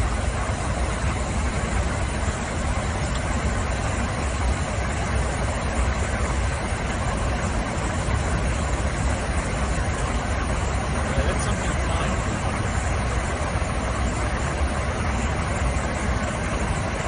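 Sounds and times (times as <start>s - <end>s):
airliner cabin engine drone: 0.0s - 17.0s.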